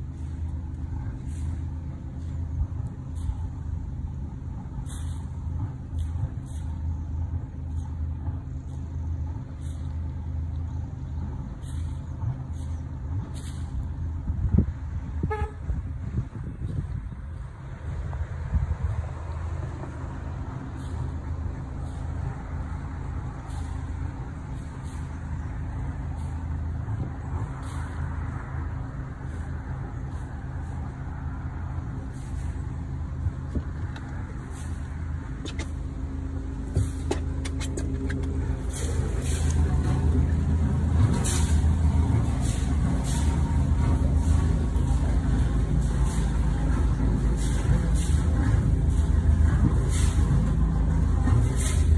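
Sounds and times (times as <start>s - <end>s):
boat engine humming: 0.0s - 51.9s.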